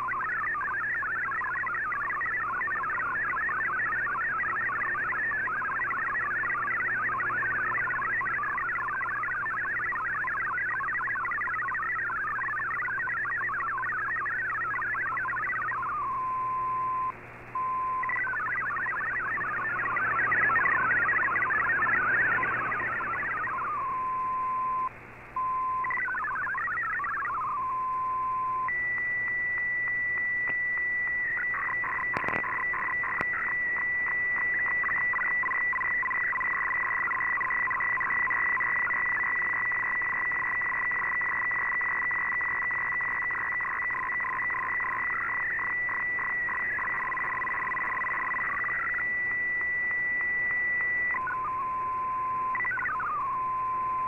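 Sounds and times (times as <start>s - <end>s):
buzzing shifting data tones: 0.0s - 54.0s
warbling digital tones: 0.0s - 54.0s.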